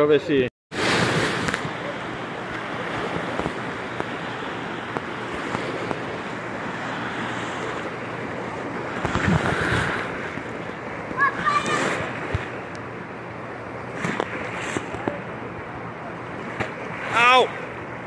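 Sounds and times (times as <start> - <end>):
water surging and breaking: 0.7 - 18.0.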